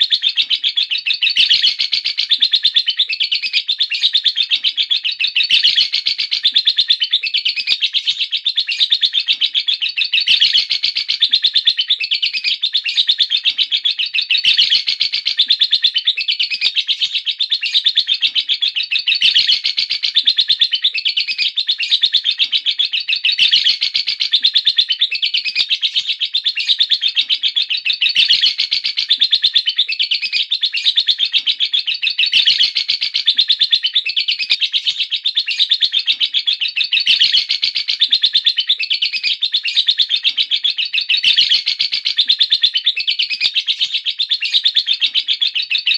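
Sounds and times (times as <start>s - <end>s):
lovebird shrill chattering: 0.2s - 45.9s.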